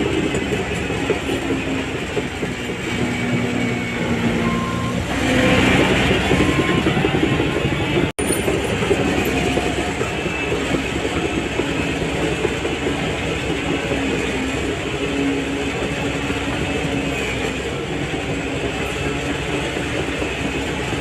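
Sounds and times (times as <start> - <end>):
bulldozer diesel engine under load: 0.0 - 21.0
crawler tracks clanking: 0.0 - 21.0.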